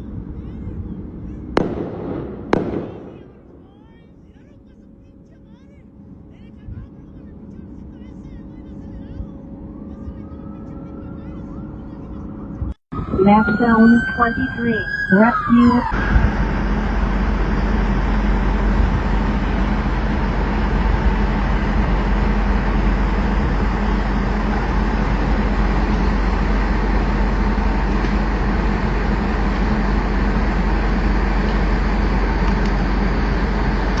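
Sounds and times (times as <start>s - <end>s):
vehicle engine and road noise: 0.0s - 15.1s, 15.9s - 34.0s.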